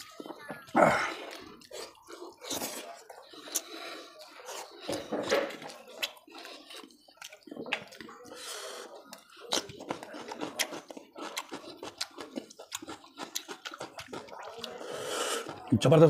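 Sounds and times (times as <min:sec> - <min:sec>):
person chewing and smacking: 0:00.0 - 0:15.7.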